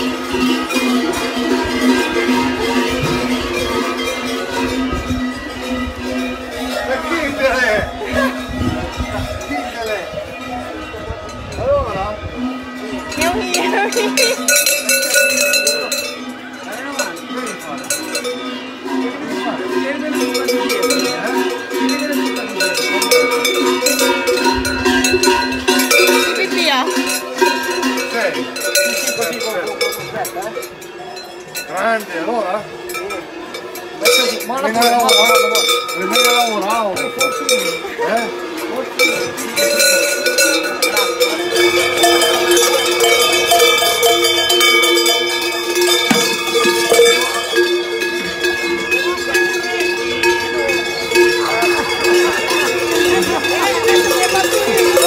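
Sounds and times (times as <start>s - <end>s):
metal cowbells clanking: 0.0s - 55.0s.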